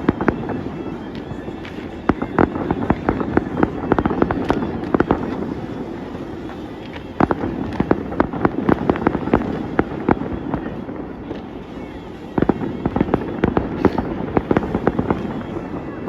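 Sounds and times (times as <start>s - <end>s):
fireworks cracking and popping: 0.0s - 16.0s
low rumble of fireworks: 0.0s - 16.0s.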